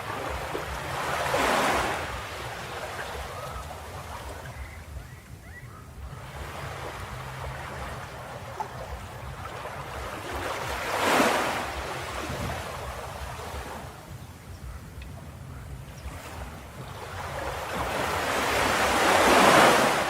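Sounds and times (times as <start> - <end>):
wave breaking and washing in: 0.0 - 4.8, 6.1 - 14.2, 16.1 - 20.0
surf rumble: 0.0 - 20.0.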